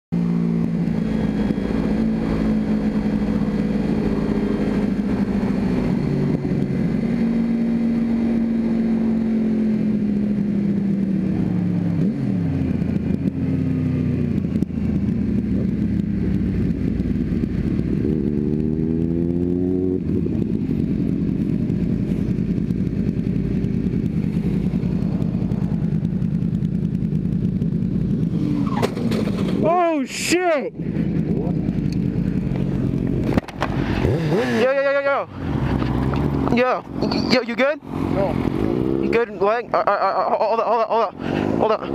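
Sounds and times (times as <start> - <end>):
motorcycle engine revving: 0.2 - 30.0, 30.7 - 41.9.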